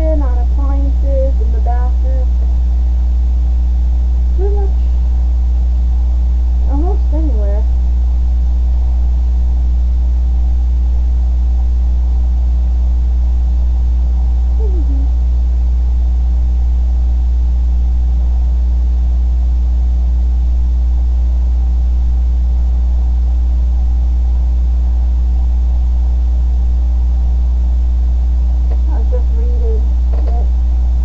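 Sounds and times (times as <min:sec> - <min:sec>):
loud low hum: 0:00.0 - 0:31.0.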